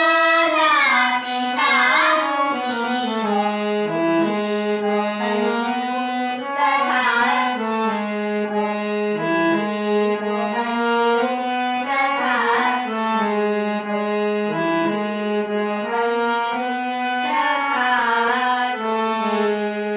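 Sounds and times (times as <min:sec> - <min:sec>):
reedy melody: 0:00.0 - 0:19.9.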